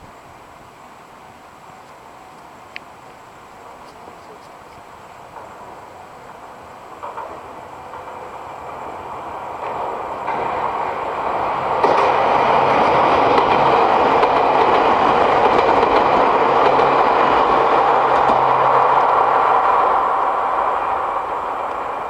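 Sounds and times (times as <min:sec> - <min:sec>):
train passing on rails: 0:00.0 - 0:22.0.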